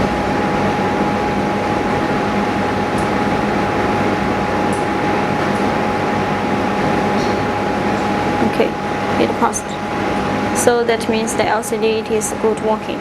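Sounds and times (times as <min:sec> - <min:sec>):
machine humming with constant tone: 0:00.0 - 0:13.0.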